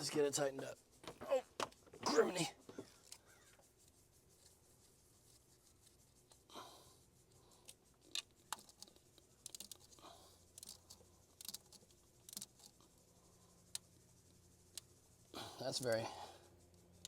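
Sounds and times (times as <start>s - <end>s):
handling rustle: 0.0s - 17.0s.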